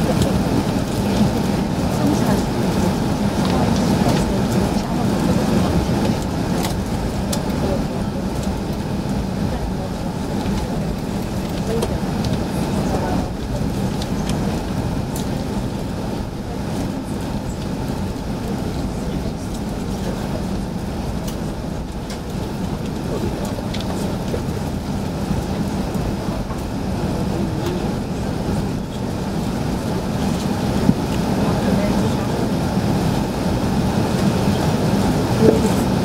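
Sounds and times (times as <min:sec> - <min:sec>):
aircraft cabin engine hum and rumble: 0:00.0 - 0:36.0.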